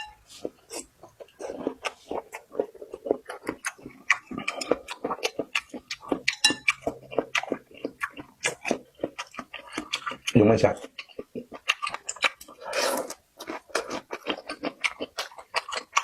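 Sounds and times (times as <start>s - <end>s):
chewing with wet smacking: 0.1s - 16.0s
crunchy chewing clicks: 0.5s - 16.0s.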